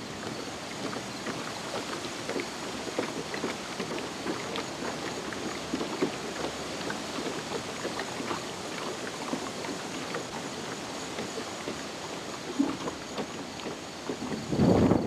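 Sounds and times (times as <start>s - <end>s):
small water splashes: 0.0s - 14.8s
rushing floodwater: 0.0s - 15.0s.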